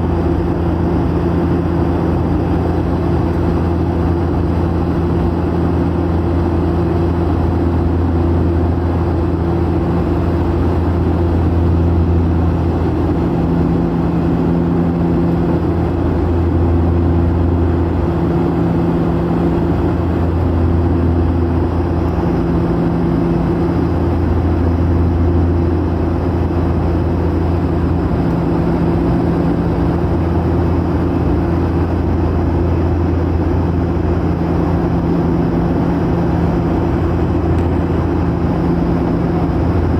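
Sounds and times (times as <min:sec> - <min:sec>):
aircraft engines droning: 0:00.0 - 0:39.9
low hum: 0:00.0 - 0:39.9.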